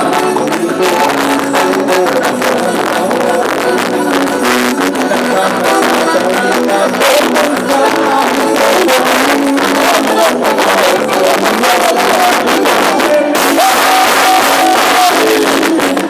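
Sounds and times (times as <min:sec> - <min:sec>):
festive band music: 0:00.0 - 0:16.0
quick percussive beat: 0:00.0 - 0:16.0.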